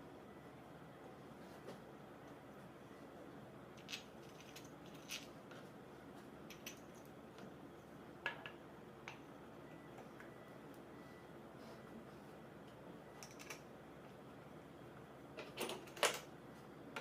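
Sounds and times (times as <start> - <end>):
faint steady background noise: 0.0 - 17.0.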